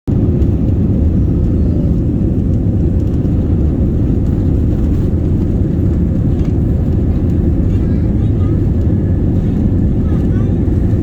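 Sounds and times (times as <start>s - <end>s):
jet engine rumble in cabin: 0.1s - 11.0s.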